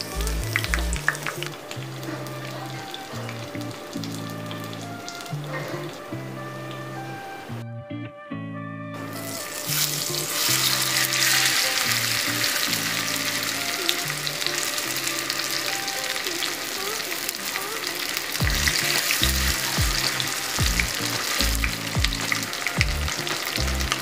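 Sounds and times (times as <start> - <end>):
oil sizzling and spitting: 0.0 - 7.1, 9.1 - 24.0
background music: 0.0 - 24.0.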